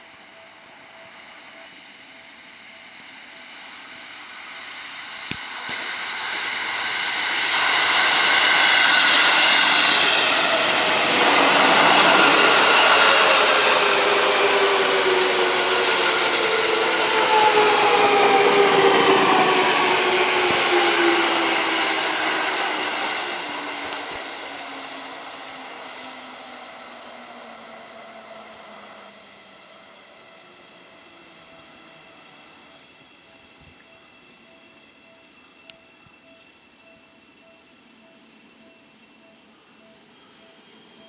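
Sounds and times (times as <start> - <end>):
electric train running past: 0.0 - 41.0
wheel and track noise with whine: 0.0 - 41.0.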